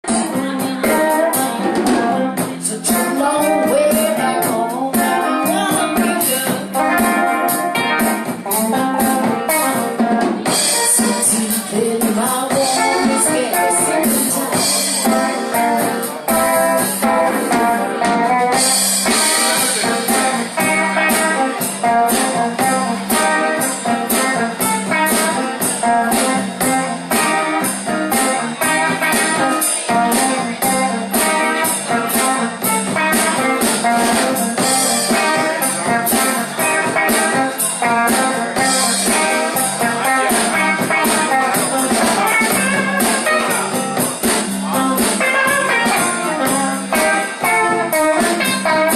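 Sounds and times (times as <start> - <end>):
blues guitar: 0.0 - 48.9
drum kit steady beat: 0.0 - 48.9.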